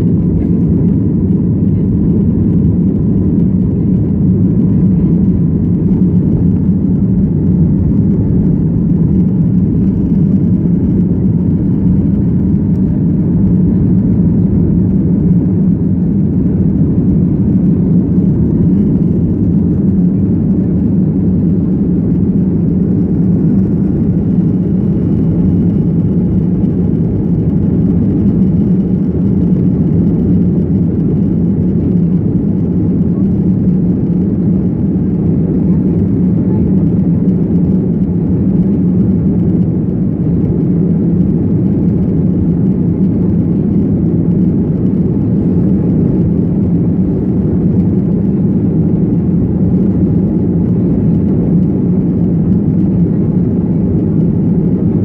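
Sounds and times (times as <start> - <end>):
airliner cabin engine drone: 0.0 - 55.0.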